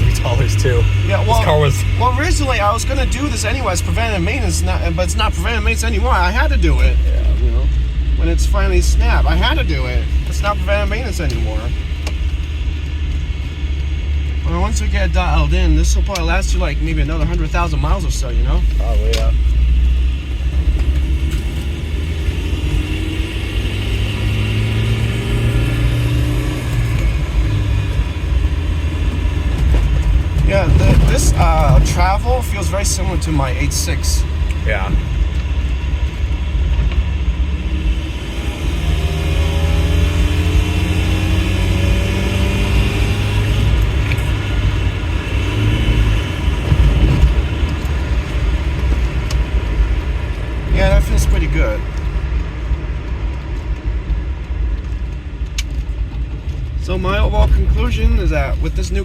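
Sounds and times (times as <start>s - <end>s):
car engine running: 0.0s - 59.0s
low road rumble: 0.0s - 59.0s.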